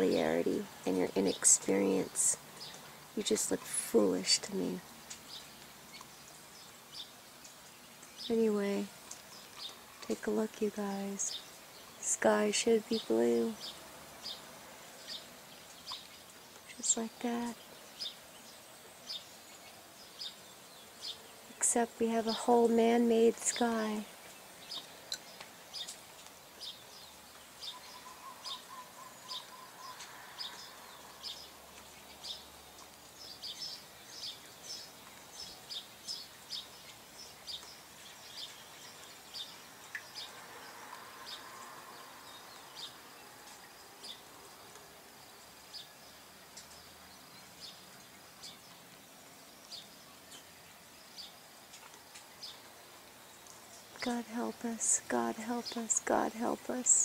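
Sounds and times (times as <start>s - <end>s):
faint background hiss: 0.0s - 57.0s
small birds chirping: 0.0s - 57.0s.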